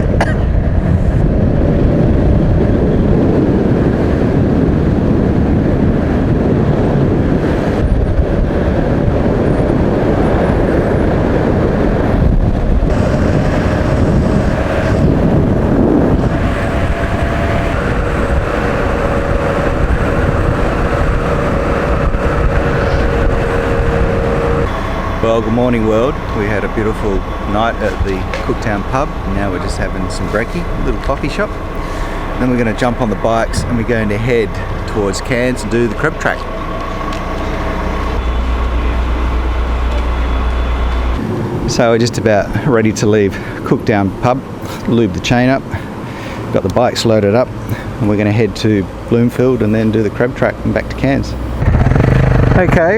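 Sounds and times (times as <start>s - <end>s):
motorcycle engine and road noise: 0.0s - 52.9s.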